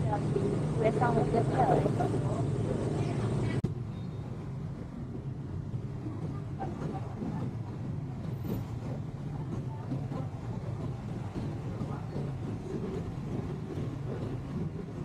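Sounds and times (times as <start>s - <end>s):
faint voices: 0.0s - 3.7s, 5.2s - 15.0s
low engine rumble: 0.0s - 15.0s.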